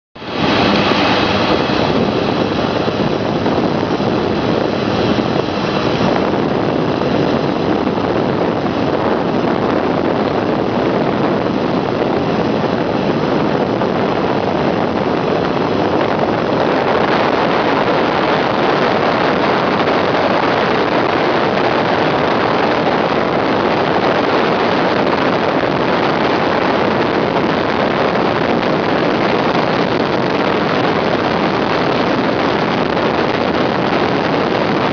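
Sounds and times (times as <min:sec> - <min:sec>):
high turbine whine: 0:00.2 - 0:34.9
turboprop engines running: 0:00.2 - 0:34.9.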